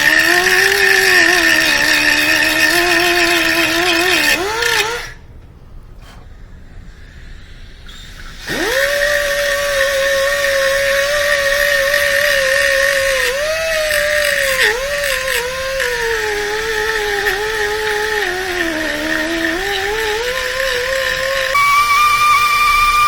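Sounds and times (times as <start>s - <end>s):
high-speed power tool whining: 0.0s - 5.3s, 7.6s - 23.0s.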